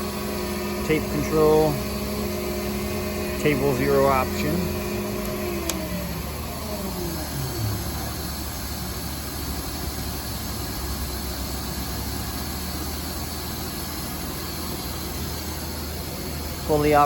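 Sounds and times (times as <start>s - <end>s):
machinery hum and hiss: 0.0s - 17.0s
motor winding down whine: 0.0s - 17.0s.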